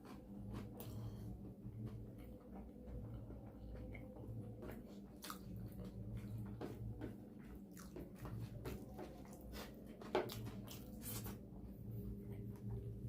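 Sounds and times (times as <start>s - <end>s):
person chewing food: 0.0s - 12.9s.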